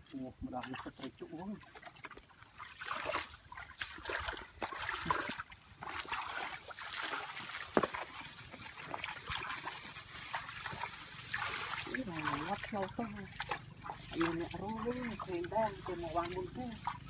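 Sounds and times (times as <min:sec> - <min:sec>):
bare feet splashing through water: 0:00.0 - 0:17.0.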